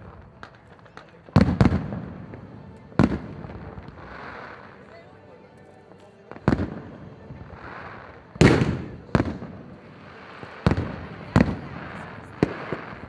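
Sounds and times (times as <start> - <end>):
firework bangs: 0.0 - 4.8, 6.3 - 13.0
firework crackling hiss: 0.0 - 5.0, 6.4 - 13.0.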